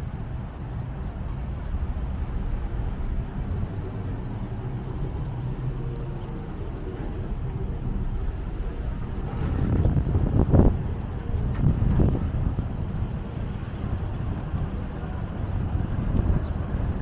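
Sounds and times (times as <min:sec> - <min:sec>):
faint engine hum: 0:00.0 - 0:17.0
traffic rumble: 0:00.0 - 0:17.0
wind buffeting microphone: 0:00.0 - 0:17.0.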